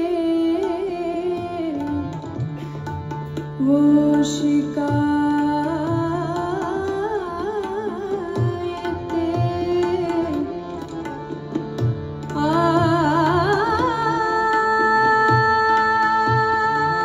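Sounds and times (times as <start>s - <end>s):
woman singing: 0.0s - 2.5s, 3.6s - 11.0s, 12.3s - 17.0s
harmonium held notes: 0.0s - 17.0s
tabla strokes: 0.0s - 17.0s.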